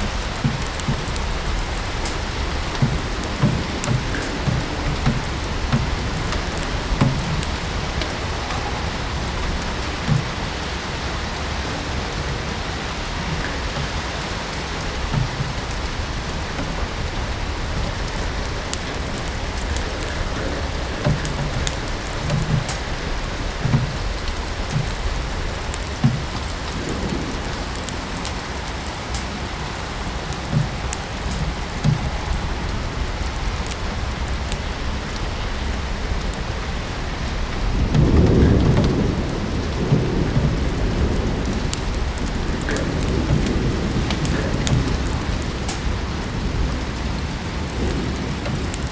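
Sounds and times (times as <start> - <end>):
steady rain: 0.0 - 48.9
wood fire crackling: 0.0 - 48.9.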